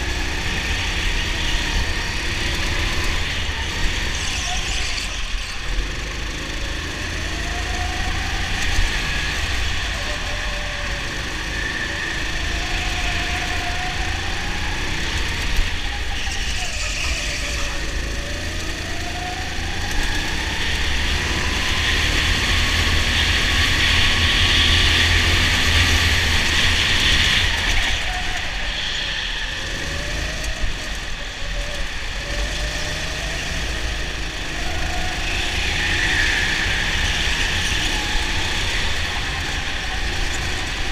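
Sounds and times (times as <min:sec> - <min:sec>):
go-kart engine revving: 0:00.0 - 0:40.9.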